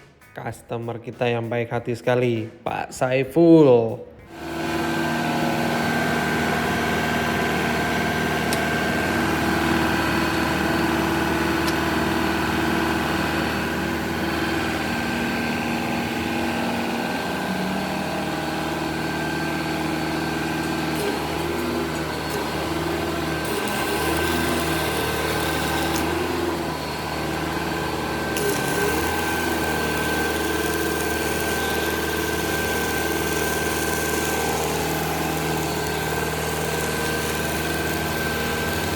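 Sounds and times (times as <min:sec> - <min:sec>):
diesel engine running: 0:04.3 - 0:38.9.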